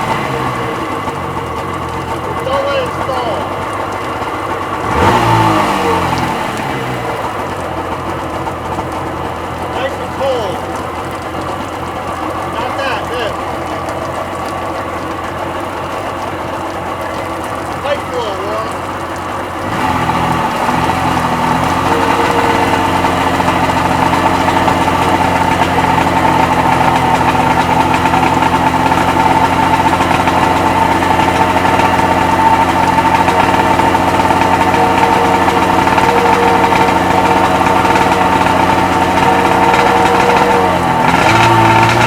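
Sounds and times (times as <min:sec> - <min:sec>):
two-stroke engine idling: 0:00.0 - 0:42.0.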